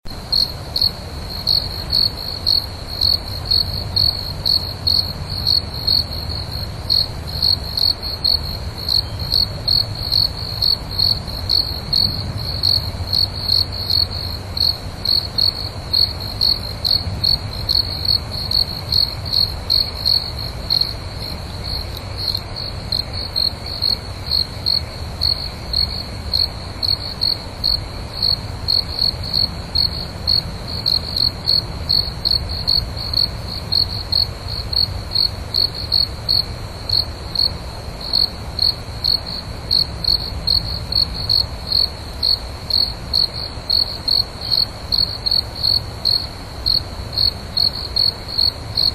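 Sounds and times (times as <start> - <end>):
cricket chirping: 0.1 - 48.9.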